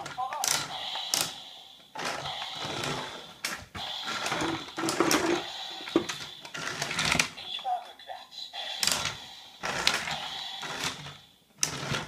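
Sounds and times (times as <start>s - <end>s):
toy train motor whirring: 0.0s - 7.5s, 8.5s - 12.0s.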